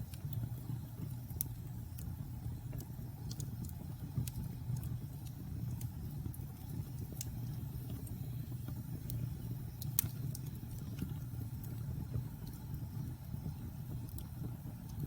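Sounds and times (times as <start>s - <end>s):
fire crackling and popping: 0.0s - 15.0s
fire rumbling in fireplace: 0.0s - 15.0s.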